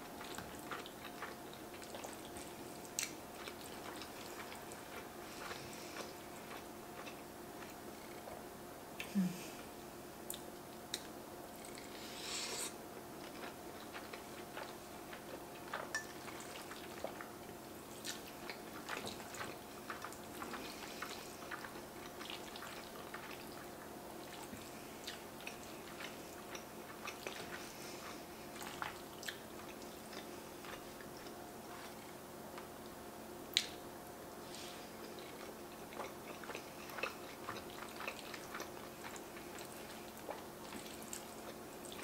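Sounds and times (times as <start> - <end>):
close chewing: 0.0 - 8.4, 13.0 - 32.9, 34.4 - 42.0
faint steady hum: 0.0 - 42.0.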